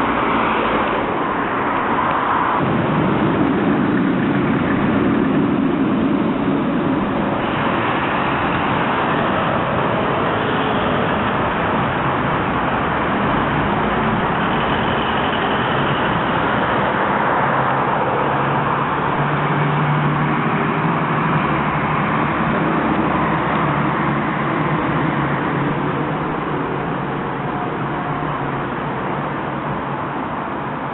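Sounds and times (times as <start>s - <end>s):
tram and street traffic: 0.0s - 30.9s.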